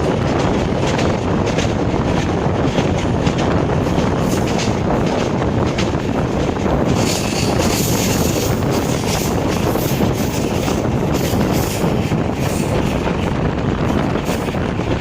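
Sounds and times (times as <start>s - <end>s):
train wheels rumbling and rattling: 0.0s - 15.0s
wind buffeting microphone: 0.0s - 15.0s.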